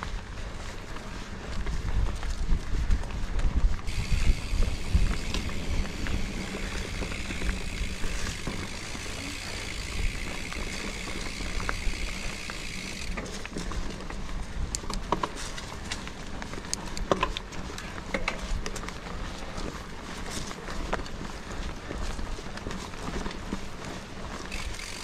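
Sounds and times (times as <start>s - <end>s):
bike rattling on dirt trail: 0.0s - 25.0s.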